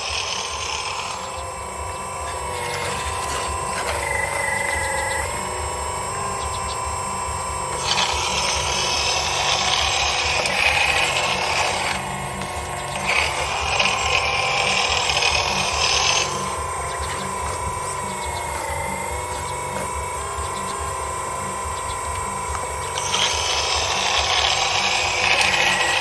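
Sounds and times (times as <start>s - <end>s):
hydraulic pump whining: 0.0s - 26.0s.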